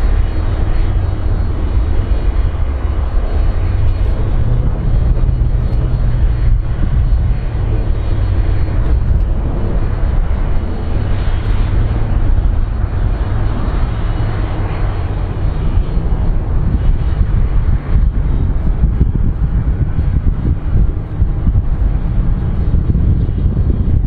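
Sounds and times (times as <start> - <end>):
airplane landing rumble: 0.0 - 24.0.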